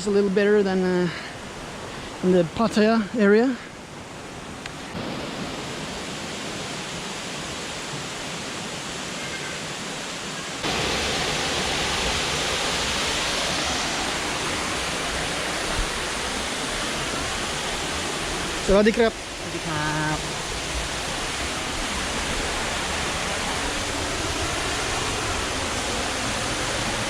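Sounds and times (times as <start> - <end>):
waterfall rushing: 0.2 - 27.0.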